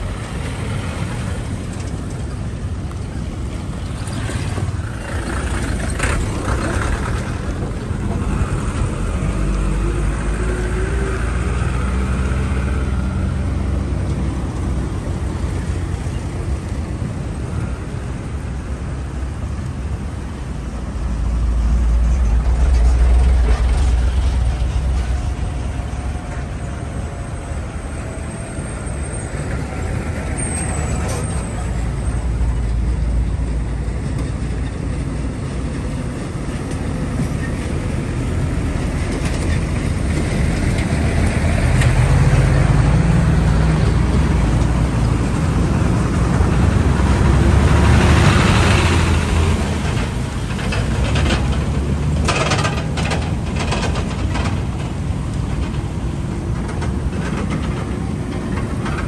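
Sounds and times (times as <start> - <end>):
deep engine rumble: 0.0 - 59.0
tyre and road noise: 0.0 - 59.0.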